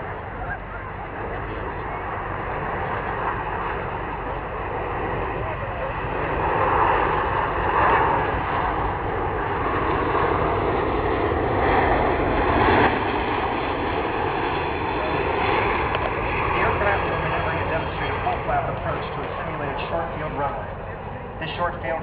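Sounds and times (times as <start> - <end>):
jet engines passing low: 0.0 - 22.0.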